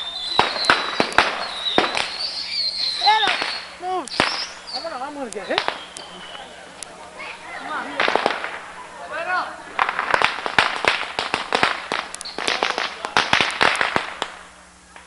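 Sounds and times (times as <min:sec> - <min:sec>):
firecrackers popping: 0:00.0 - 0:15.0.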